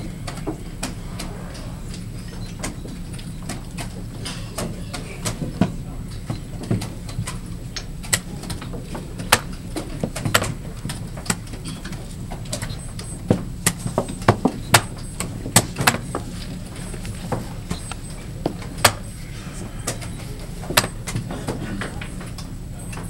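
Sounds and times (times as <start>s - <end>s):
low hall hum: 0.0s - 23.0s.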